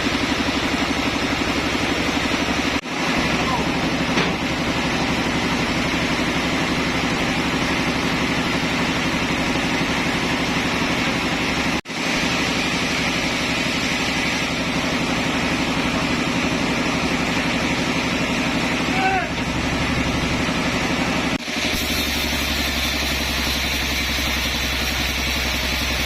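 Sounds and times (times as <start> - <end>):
sawmill machinery engine running: 0.0 - 26.0.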